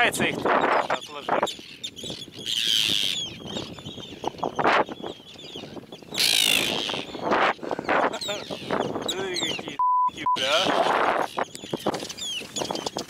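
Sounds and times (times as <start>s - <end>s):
terns alarm calling: 0.2s - 9.8s, 10.4s - 13.0s.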